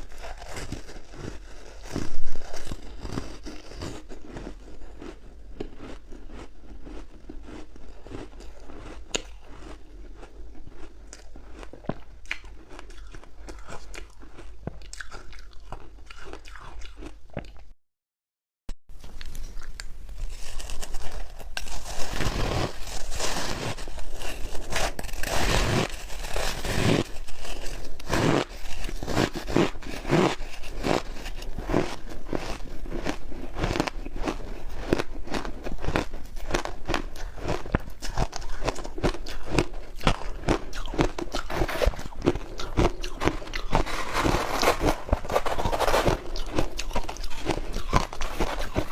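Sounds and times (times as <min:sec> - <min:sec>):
ice crunching between teeth: 0:00.0 - 0:17.5, 0:19.2 - 0:48.9.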